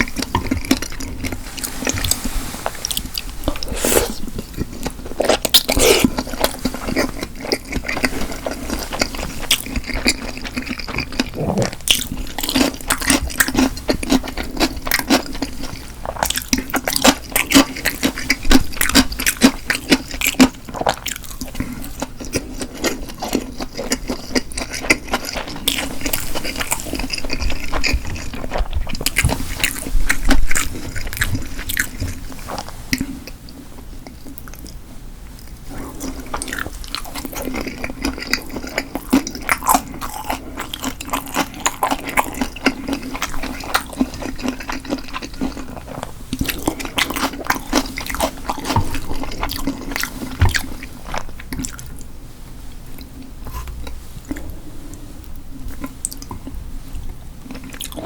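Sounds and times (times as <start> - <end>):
person chewing food: 0.0 - 52.2, 52.8 - 58.0.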